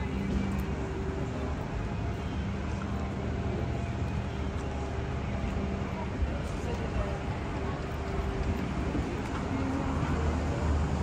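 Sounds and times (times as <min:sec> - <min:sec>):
low city rumble: 0:00.0 - 0:11.0.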